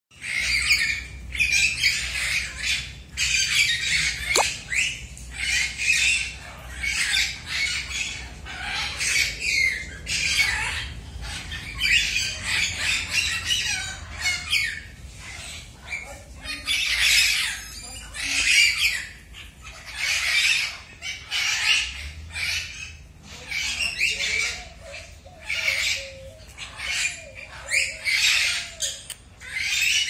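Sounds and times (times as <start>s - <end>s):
birds squawking and chirping: 0.1s - 30.0s.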